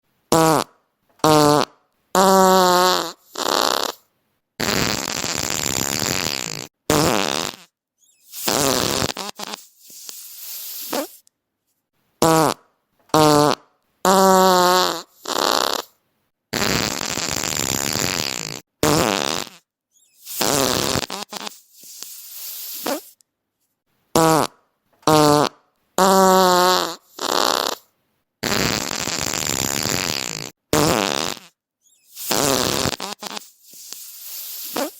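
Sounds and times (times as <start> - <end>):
fart sounds: 0.3 - 11.2, 12.2 - 23.2, 24.2 - 34.9.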